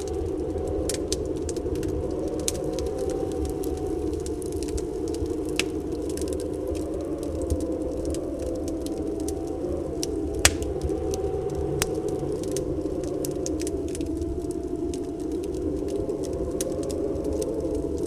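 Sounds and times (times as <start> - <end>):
fire popping: 0.0 - 18.0
whistling storm wind: 0.0 - 18.0
wood fire crackling: 0.0 - 18.0.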